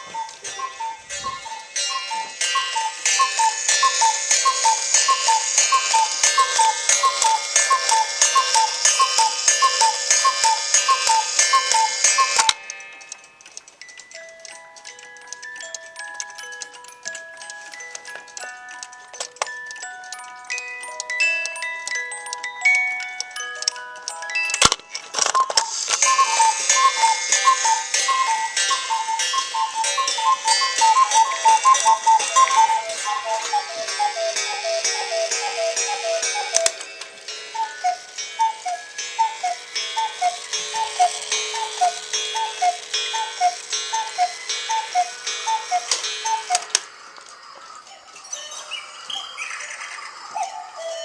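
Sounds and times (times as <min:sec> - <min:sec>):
clock ticking: 0:00.0 - 0:46.9
cuckoo clocks calling: 0:00.0 - 0:51.0.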